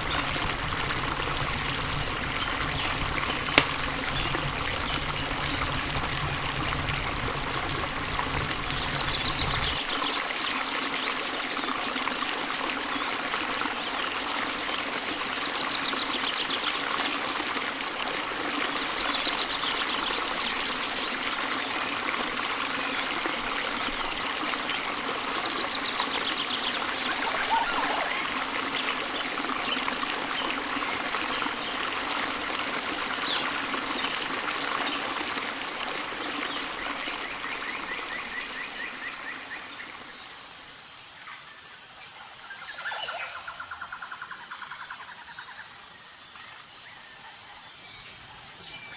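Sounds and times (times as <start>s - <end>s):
running water: 0.0s - 41.0s.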